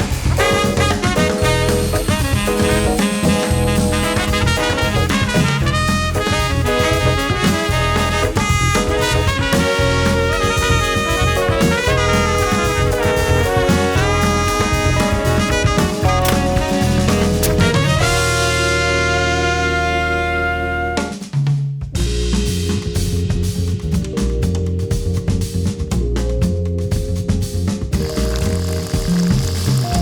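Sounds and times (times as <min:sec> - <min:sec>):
swing jazz with brass: 0:00.0 - 0:30.0.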